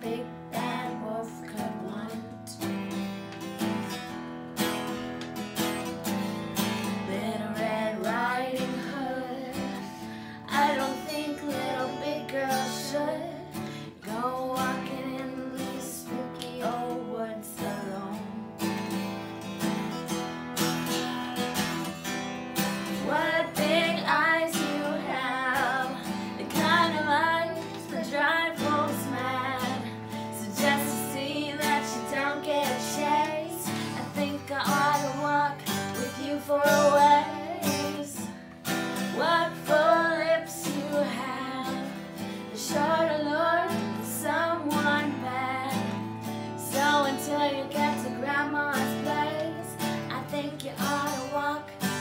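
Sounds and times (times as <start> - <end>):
woman and boy singing: 0.0 - 2.6, 7.0 - 18.4, 23.0 - 38.4, 39.1 - 52.0
acoustic guitar strumming: 0.0 - 52.0.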